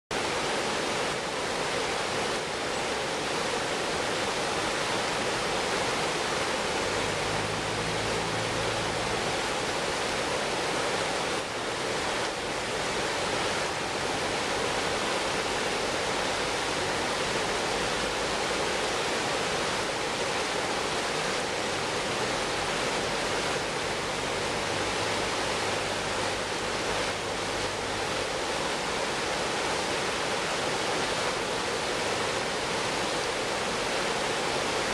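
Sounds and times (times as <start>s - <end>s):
river water rushing over rapids: 0.1s - 34.9s.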